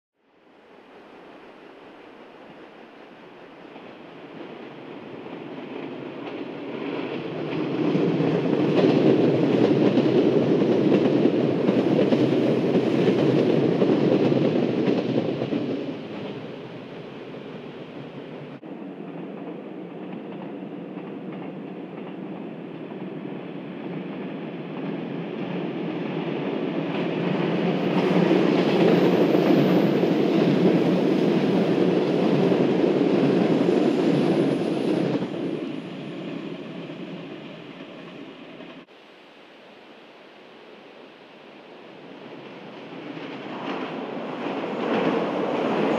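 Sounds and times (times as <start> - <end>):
electric train passing: 2.6 - 38.9, 40.6 - 45.9.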